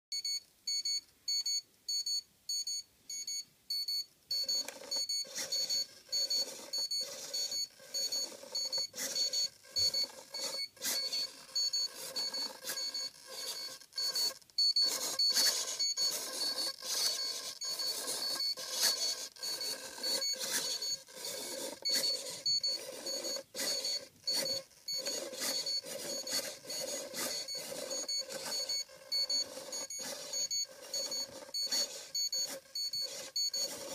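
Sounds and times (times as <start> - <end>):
high electronic beeping: 0.2 - 33.9
servo whirring: 4.3 - 33.9.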